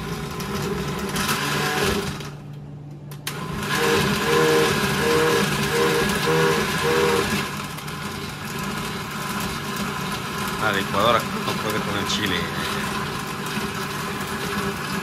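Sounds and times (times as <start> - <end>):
blender motor labouring: 0.0 - 2.4, 3.2 - 15.0.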